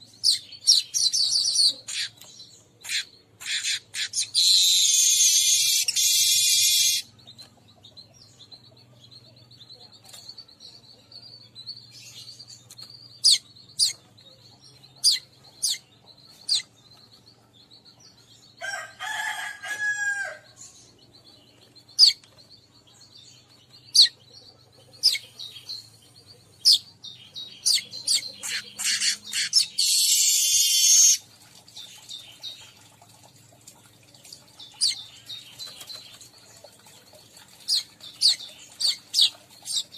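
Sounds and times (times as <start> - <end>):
weaver birds chattering: 0.0 - 39.9.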